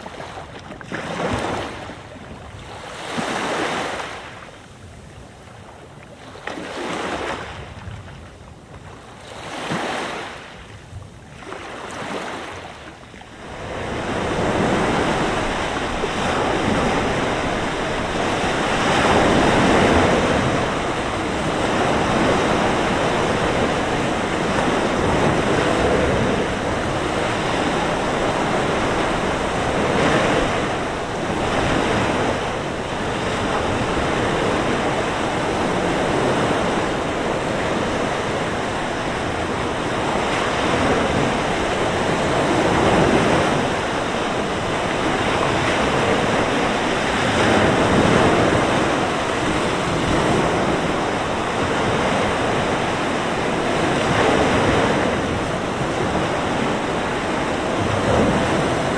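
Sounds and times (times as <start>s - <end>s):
waves breaking on shore: 0.0s - 58.9s
wind blowing: 0.0s - 58.9s.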